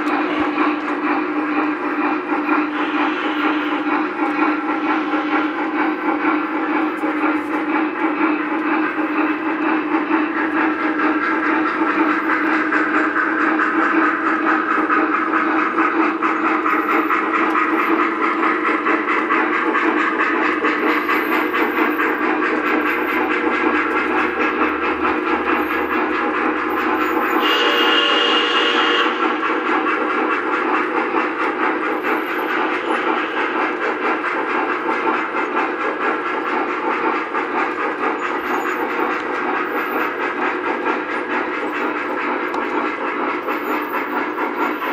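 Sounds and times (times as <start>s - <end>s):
electronic steam sounds: 0.0s - 44.9s
model train wheels rumbling: 0.0s - 44.9s.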